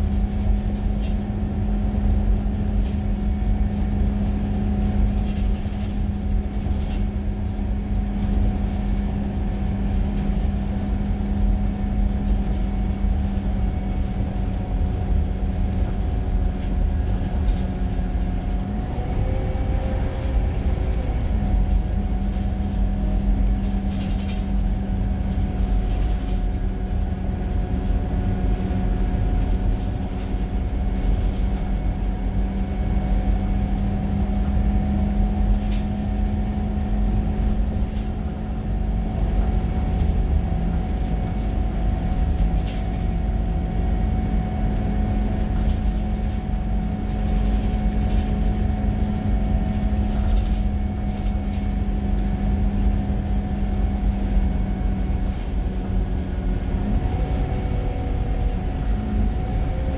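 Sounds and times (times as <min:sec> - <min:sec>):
deep road rumble: 0:00.0 - 0:59.9.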